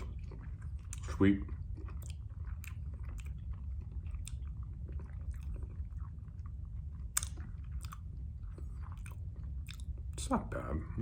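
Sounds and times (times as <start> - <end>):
close-up chewing of jelly sweet: 0.0 - 10.7
steady low hum: 0.0 - 11.0.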